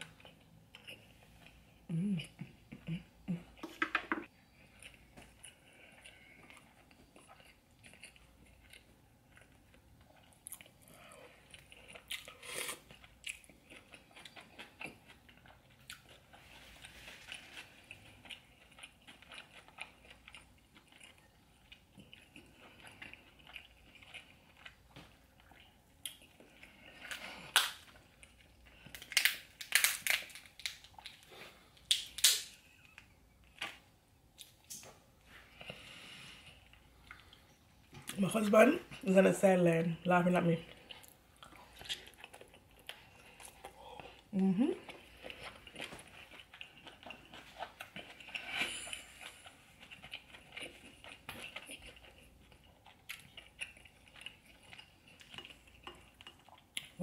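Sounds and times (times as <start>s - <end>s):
person chewing and smacking: 0.0s - 38.2s, 40.7s - 57.0s.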